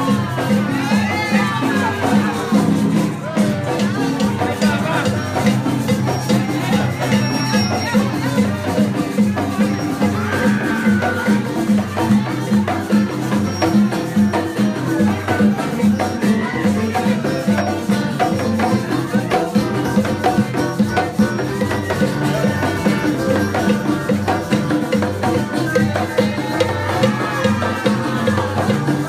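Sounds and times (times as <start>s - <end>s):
frame drums beaten: 0.0s - 29.0s
shakers: 0.0s - 29.0s.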